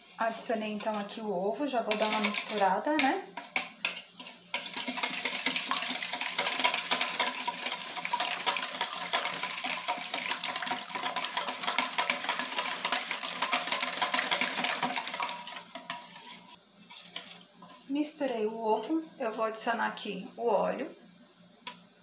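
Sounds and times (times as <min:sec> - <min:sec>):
whisk beating eggs in metal bowl: 0:00.0 - 0:17.8.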